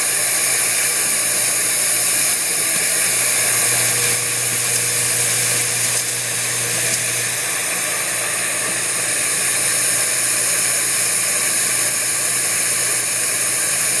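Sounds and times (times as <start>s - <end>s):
machine hissing: 0.0s - 14.0s.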